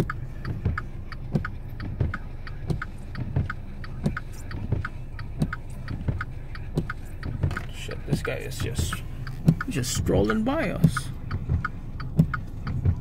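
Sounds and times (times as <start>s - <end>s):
low steady hum: 0.0s - 13.0s
sharp regular ticks: 0.0s - 13.0s.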